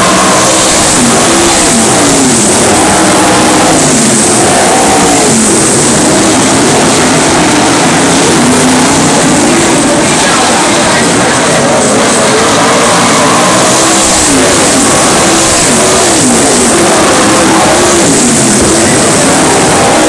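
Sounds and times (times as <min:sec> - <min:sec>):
race car engines racing past: 0:00.0 - 0:20.0.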